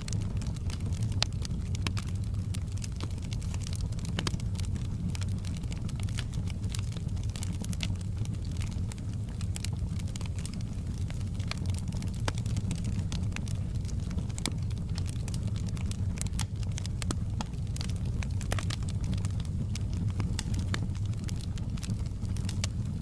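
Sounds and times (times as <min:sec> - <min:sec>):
campfire crackling and popping: 0:00.0 - 0:23.0
low fire rumble: 0:00.0 - 0:23.0.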